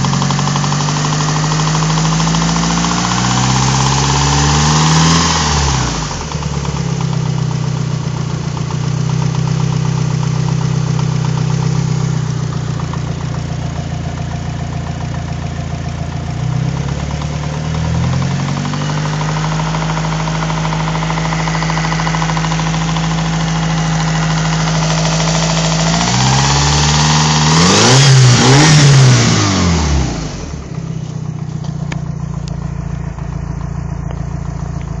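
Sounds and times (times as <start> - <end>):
engine revving: 0.0 - 7.5, 8.5 - 35.0
car engine idling with knocking: 0.0 - 35.0.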